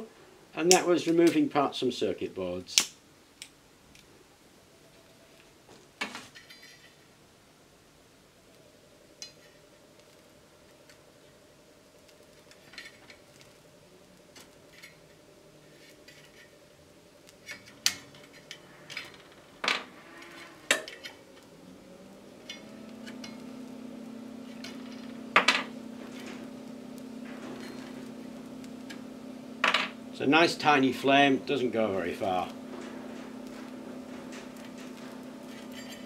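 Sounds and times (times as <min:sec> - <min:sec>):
faint steady buzz of generator: 0:00.0 - 0:36.0.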